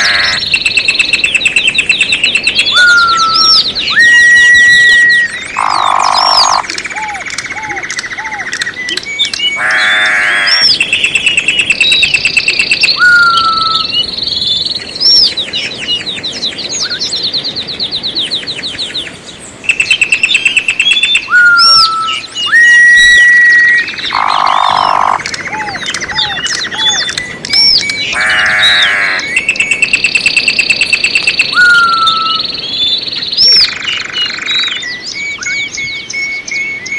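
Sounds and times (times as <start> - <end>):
songbirds singing and calling: 0.0 - 36.9.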